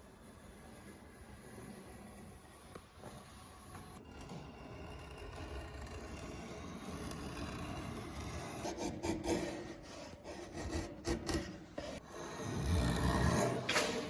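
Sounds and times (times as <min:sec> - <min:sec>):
rasping strokes on a surface: 0:00.0 - 0:13.6.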